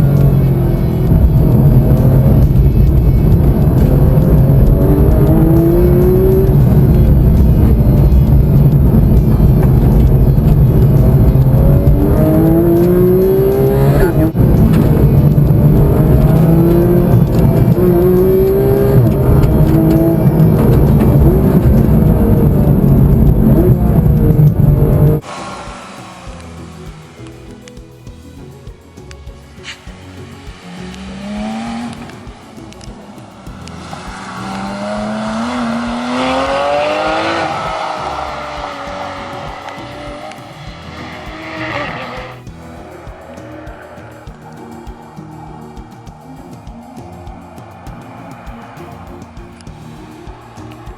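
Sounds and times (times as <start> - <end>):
car engine accelerating hard: 0.0 - 27.9, 30.4 - 50.9
background music with steady beat: 0.0 - 50.9.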